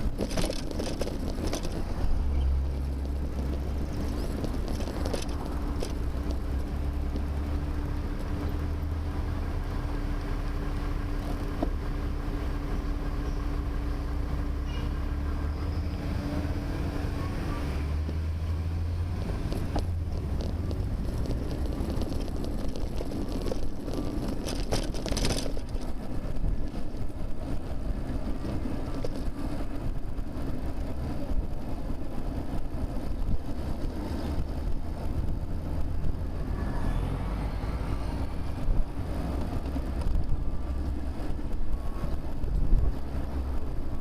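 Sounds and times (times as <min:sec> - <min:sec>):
road and wind noise: 0:00.0 - 0:44.0
vehicle engine hum: 0:00.0 - 0:44.0.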